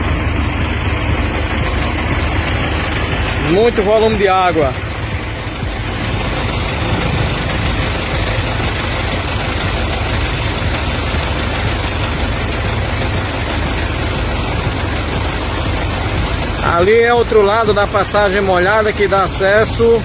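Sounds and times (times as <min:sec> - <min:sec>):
rushing floodwater: 0:00.0 - 0:20.0.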